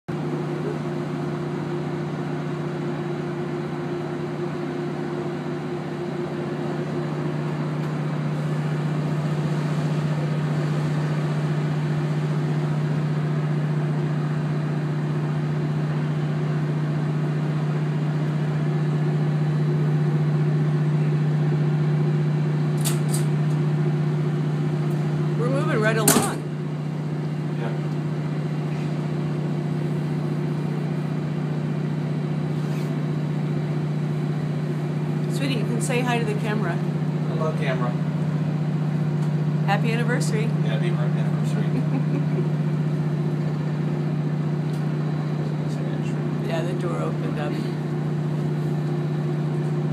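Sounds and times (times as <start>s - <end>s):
boat engines humming: 0.1s - 49.9s.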